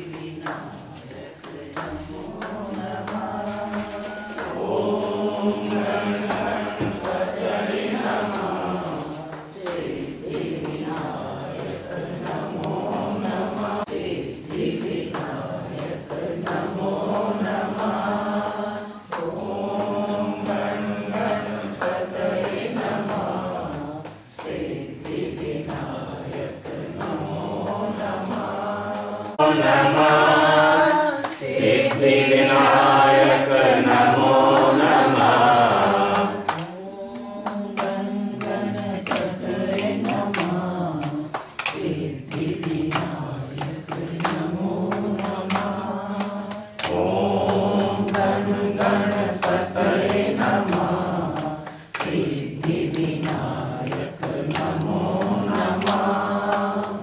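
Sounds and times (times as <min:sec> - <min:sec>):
group singing devotional chant: 0:00.0 - 0:57.0.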